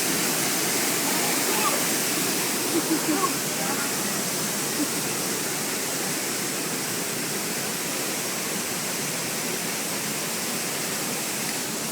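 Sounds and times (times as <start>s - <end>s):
waterfall rushing into pool: 0.0s - 11.9s.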